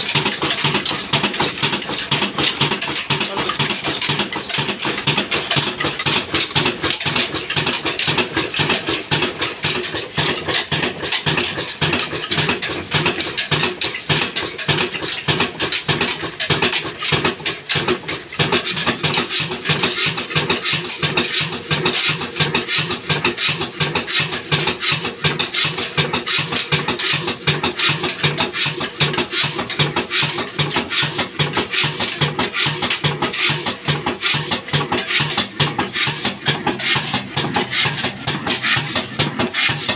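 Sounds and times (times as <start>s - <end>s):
diesel engine clattering: 0.0s - 39.9s.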